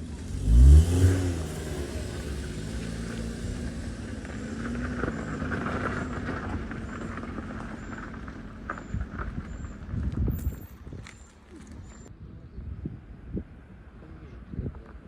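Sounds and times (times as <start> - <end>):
vehicle engine running: 0.0 - 12.1.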